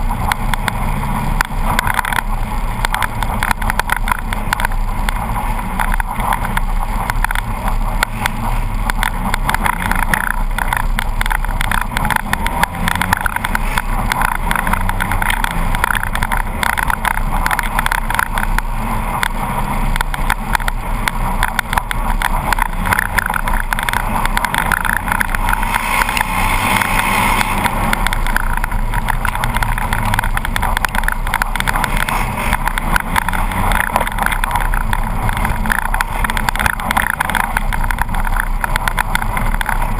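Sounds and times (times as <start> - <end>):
rattling and clatter: 0.0 - 39.9
vehicle engine running: 0.0 - 39.9.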